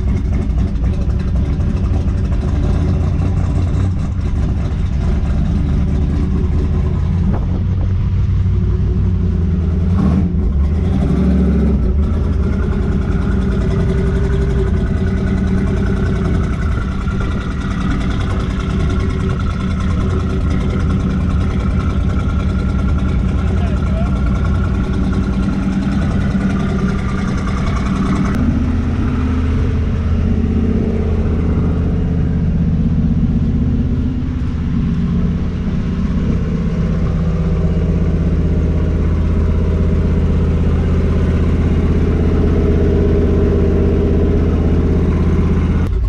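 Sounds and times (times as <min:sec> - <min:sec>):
vehicle engine idling deeply: 0:00.0 - 0:46.0.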